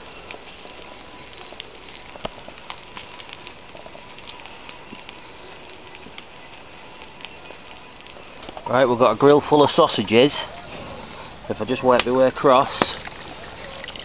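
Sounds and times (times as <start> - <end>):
campfire embers crackling: 0.0 - 14.0
meat sizzling on grill: 0.0 - 14.0.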